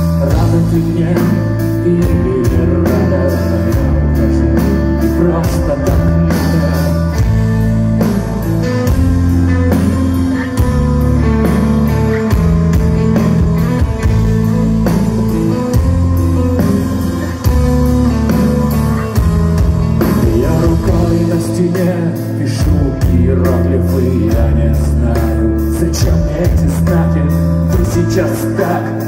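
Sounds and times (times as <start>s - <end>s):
bass notes: 0.0s - 29.0s
electric guitar: 0.0s - 29.0s.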